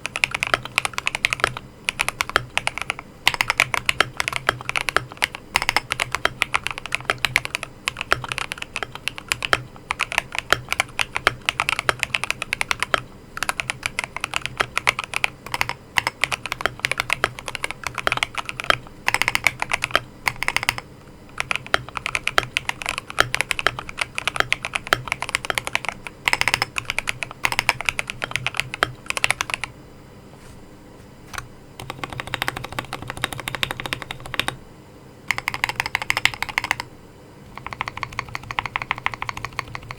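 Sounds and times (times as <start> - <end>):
mechanical keyboard typing: 0.0 - 29.7, 31.3 - 34.6, 35.3 - 36.9, 37.5 - 39.9.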